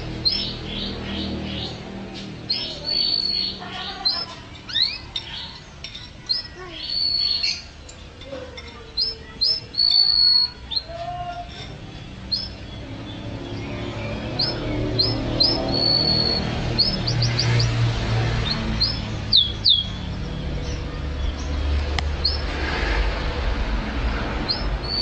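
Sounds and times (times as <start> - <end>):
canary singing: 0.0 - 22.6, 24.3 - 25.0.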